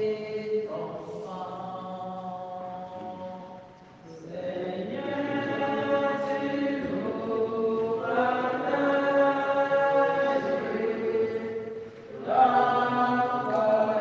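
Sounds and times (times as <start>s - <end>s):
voices singing a hymn: 0.0s - 14.0s.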